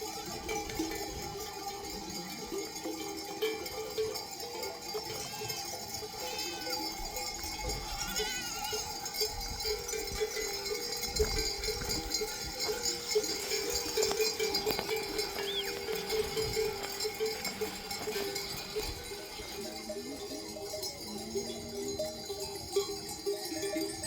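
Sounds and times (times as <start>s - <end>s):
sheep bells clanking: 0.0s - 24.0s.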